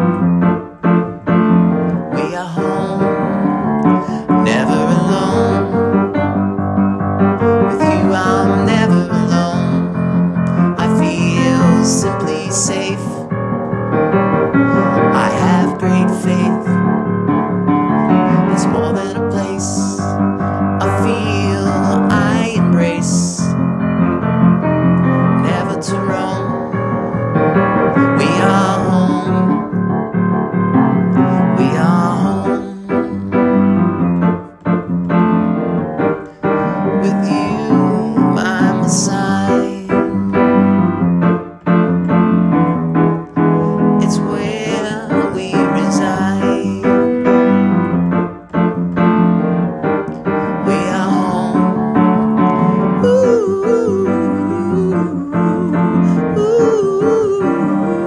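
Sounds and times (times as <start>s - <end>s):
keyboard accompaniment: 0.0s - 58.0s
person singing: 1.1s - 6.6s, 7.3s - 13.4s, 14.4s - 34.2s, 35.6s - 41.1s, 42.7s - 48.2s, 50.0s - 58.0s.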